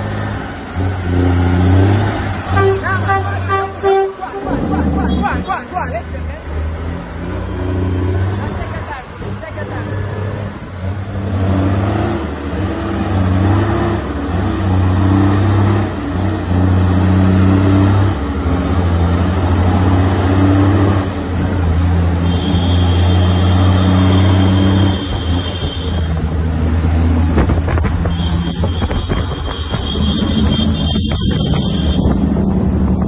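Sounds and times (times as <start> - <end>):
diesel truck engine pulling hard: 0.0 - 33.0.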